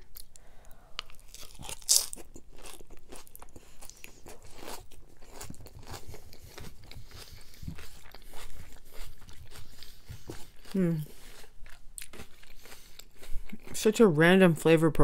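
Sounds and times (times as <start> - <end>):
crunchy salad chewing: 0.0 - 14.0.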